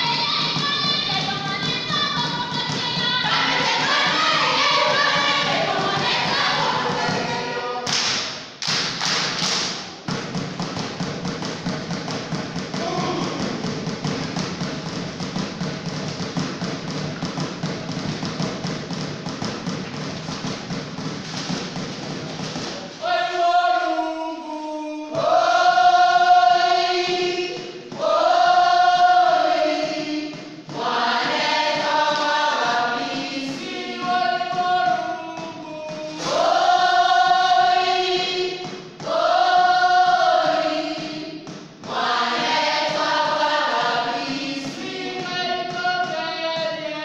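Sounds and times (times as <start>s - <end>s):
percussion thuds and taps: 0.0s - 24.0s, 25.1s - 47.0s
group singing over a beat: 0.0s - 47.0s.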